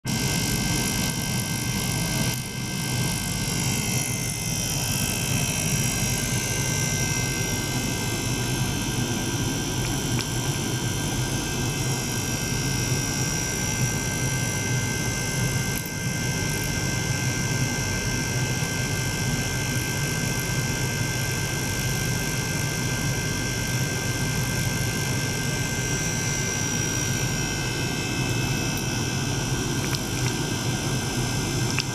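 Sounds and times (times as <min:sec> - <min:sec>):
electric pump droning: 0:00.1 - 0:31.9.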